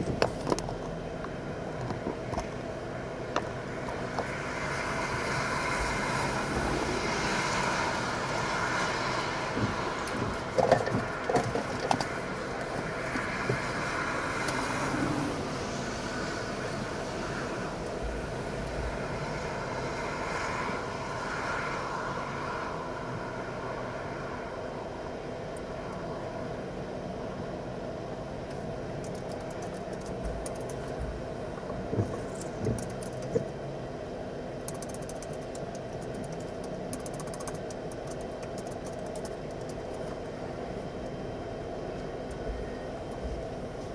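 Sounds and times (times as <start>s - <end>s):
rumbling hiss: 0.0s - 43.9s.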